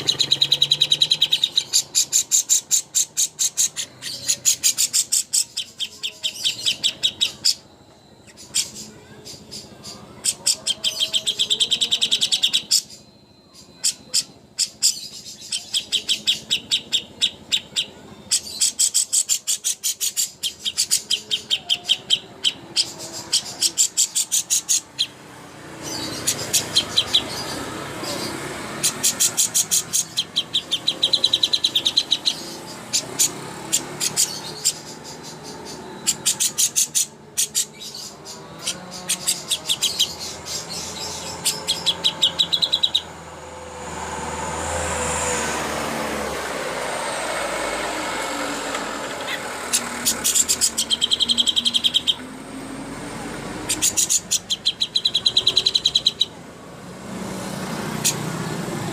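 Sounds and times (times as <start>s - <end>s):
songbird fast chattering trills: 0.0s - 43.2s, 46.6s - 52.3s, 53.2s - 56.4s.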